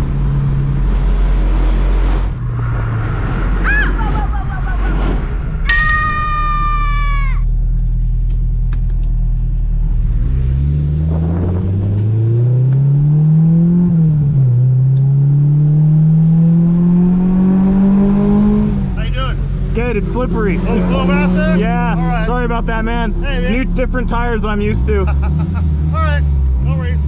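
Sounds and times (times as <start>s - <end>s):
car engine accelerating: 0.0s - 5.8s, 7.5s - 27.0s.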